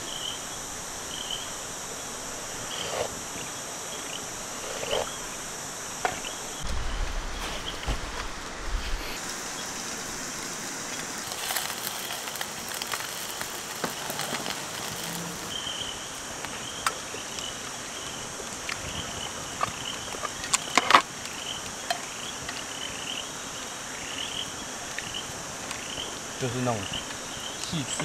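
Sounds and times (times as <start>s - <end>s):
insects: 0.0s - 28.0s.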